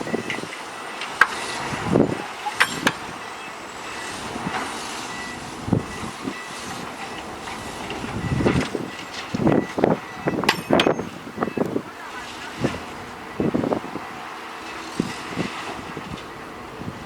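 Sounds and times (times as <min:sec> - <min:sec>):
heavy construction machinery running: 0:00.0 - 0:17.0.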